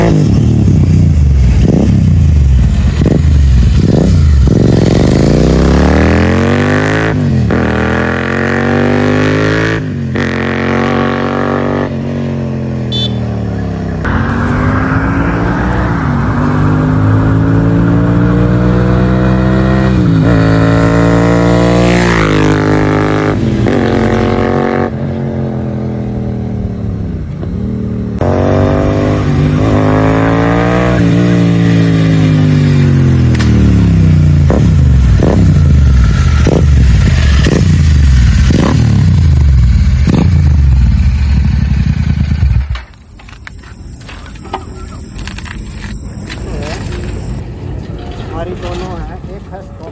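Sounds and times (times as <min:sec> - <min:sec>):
motorcycle exhaust revving: 0:00.0 - 0:49.9.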